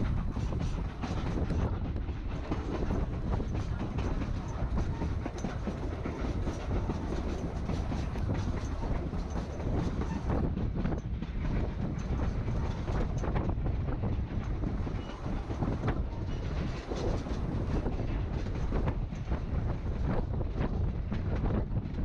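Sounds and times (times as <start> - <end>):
train cars rumbling: 0.0 - 22.0
wheels clicking over rail joints: 0.0 - 22.0.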